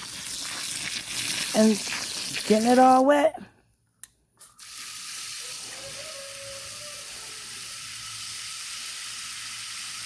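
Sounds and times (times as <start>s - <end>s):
garden hose spraying water: 0.0s - 3.4s, 4.4s - 10.0s.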